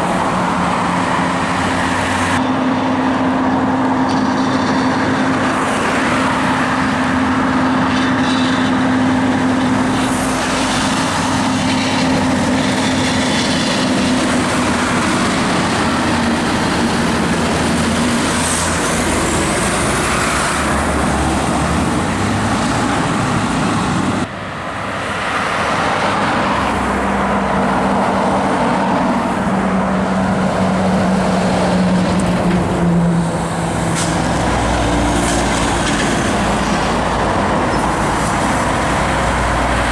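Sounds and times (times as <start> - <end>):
truck diesel engines: 0.0 - 39.9.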